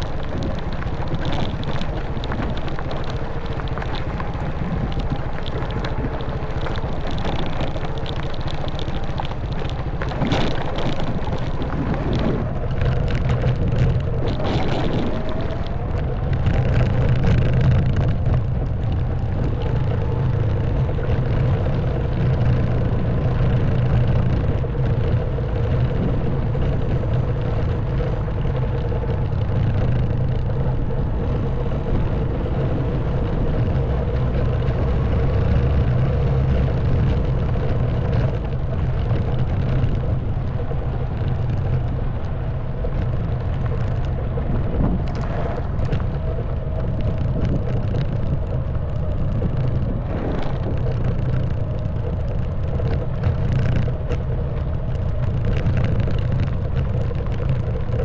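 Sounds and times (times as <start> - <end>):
motorbike engine running: 0.0 - 58.0
wind noise: 0.0 - 58.0.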